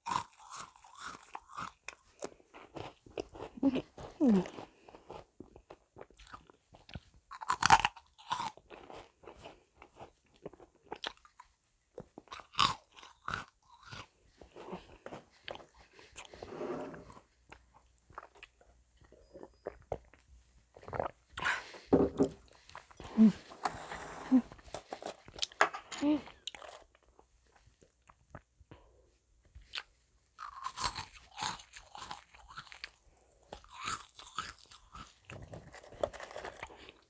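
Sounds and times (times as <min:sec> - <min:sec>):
crunchy cookies being chewed: 0:00.0 - 0:23.6, 0:24.5 - 0:37.0.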